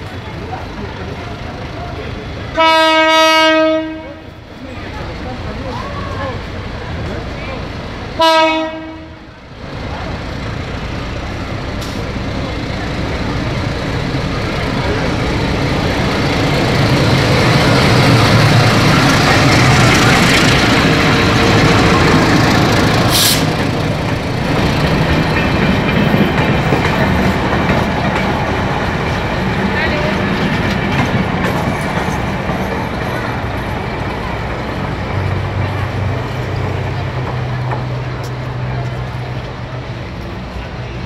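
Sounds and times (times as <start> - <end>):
diesel locomotive passing: 0.0 - 41.0.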